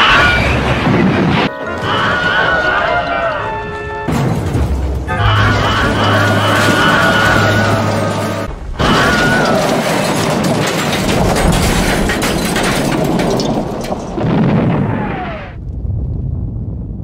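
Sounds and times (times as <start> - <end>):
loud explosion: 0.0 - 1.5, 4.1 - 17.0
rumbling and crackling: 0.0 - 17.0.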